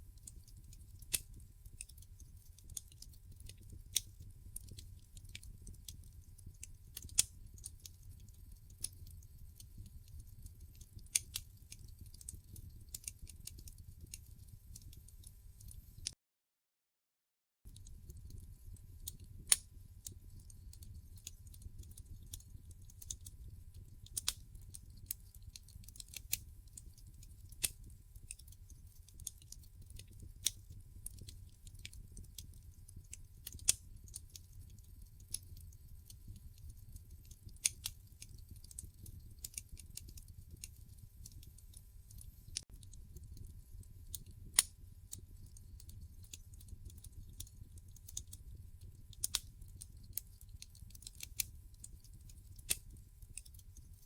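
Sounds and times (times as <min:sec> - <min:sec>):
wood fire crackling: 0:00.1 - 0:16.2, 0:17.7 - 0:54.0.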